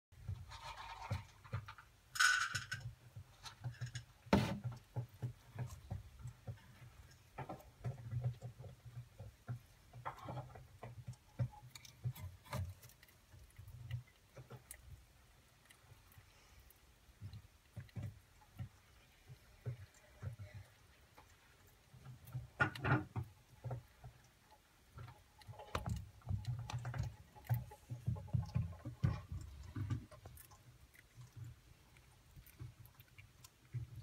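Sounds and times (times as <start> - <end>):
small animal chewing and crunching: 0.2 - 34.0.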